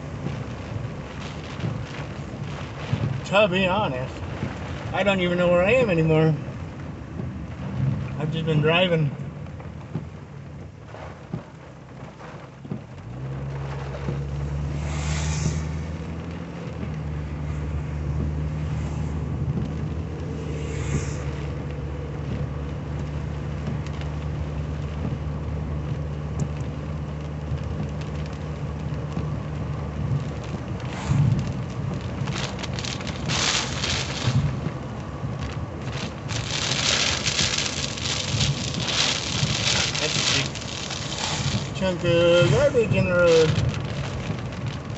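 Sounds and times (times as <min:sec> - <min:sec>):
car engine drone: 0:00.0 - 0:44.9
rain striking windshield: 0:00.0 - 0:44.9
tyres hissing on wet road: 0:00.0 - 0:44.9.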